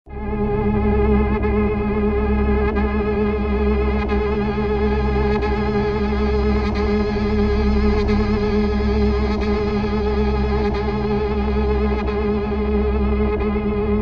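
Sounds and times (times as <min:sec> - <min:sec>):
synthesized sci-fi drone: 0:00.1 - 0:14.0.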